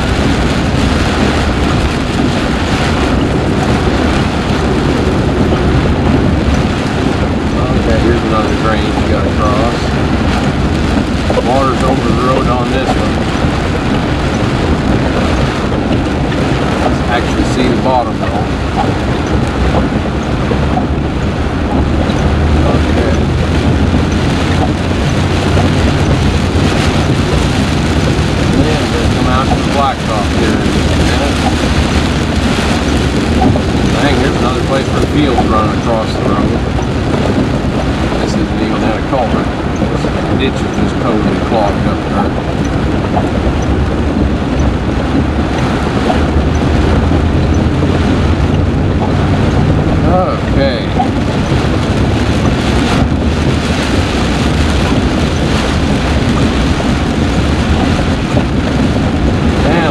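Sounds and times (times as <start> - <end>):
low engine hum: 0.0 - 59.9
water rushing: 0.0 - 59.9.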